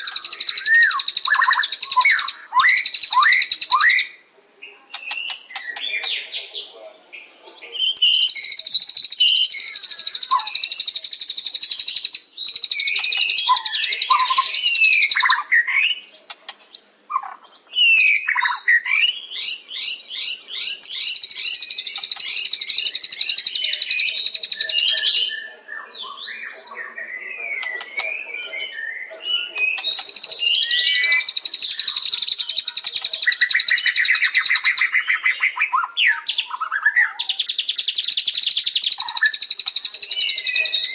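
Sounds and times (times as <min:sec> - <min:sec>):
bird whistled phrases: 0:00.0 - 0:04.2, 0:04.9 - 0:06.6, 0:07.7 - 0:40.9
bird singing fast trills: 0:00.0 - 0:40.9.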